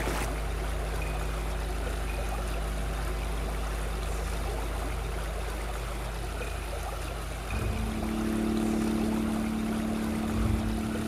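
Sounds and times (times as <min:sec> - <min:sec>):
low steady hum: 0:00.0 - 0:11.0
water running and trickling: 0:00.0 - 0:11.0
steady low tones: 0:00.3 - 0:11.0.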